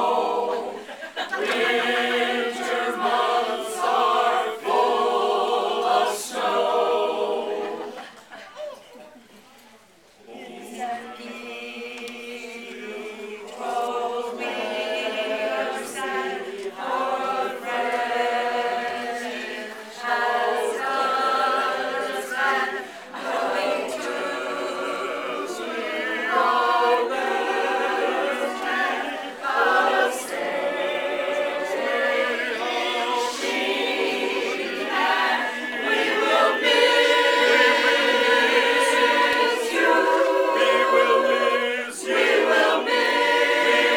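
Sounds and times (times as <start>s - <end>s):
choir singing: 0.0s - 8.2s, 10.2s - 43.9s.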